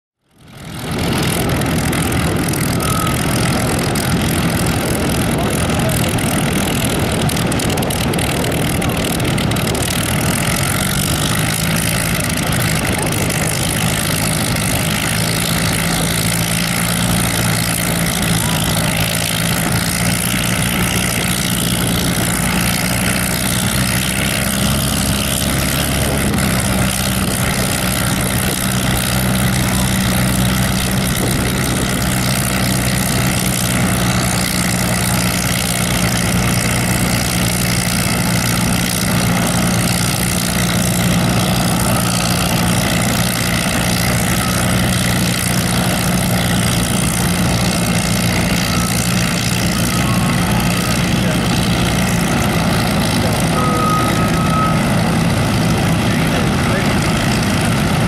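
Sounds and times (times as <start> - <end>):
propeller engine idling: 0.2 - 58.0.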